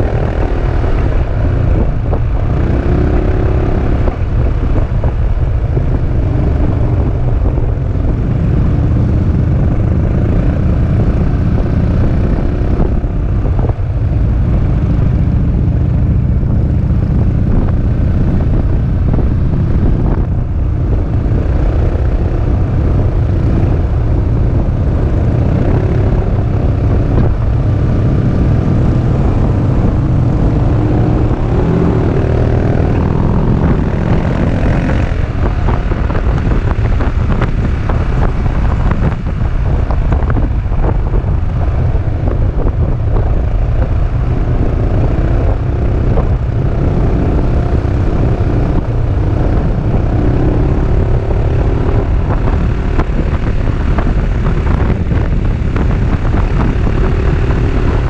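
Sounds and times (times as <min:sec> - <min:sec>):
scooter engine drone: 0:00.0 - 0:58.0
wind buffeting microphone: 0:00.0 - 0:58.0.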